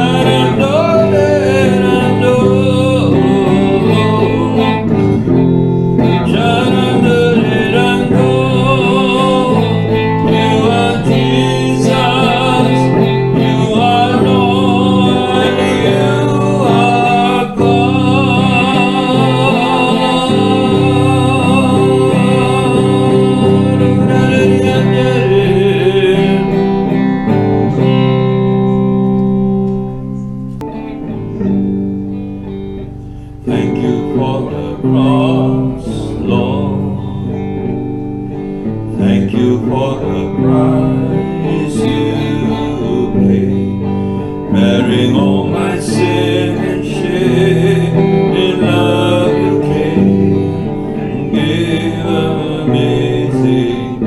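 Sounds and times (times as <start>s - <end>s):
guitar-led band instrumental: 0.0s - 54.0s.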